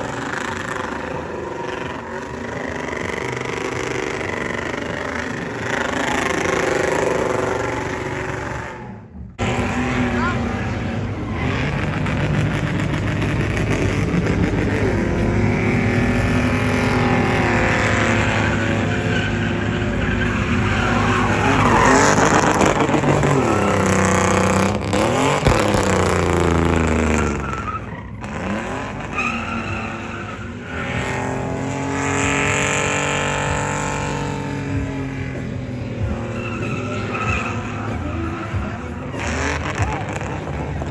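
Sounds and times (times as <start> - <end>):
engine revving hard: 0.0 - 40.9
tyre squeal: 0.0 - 40.9.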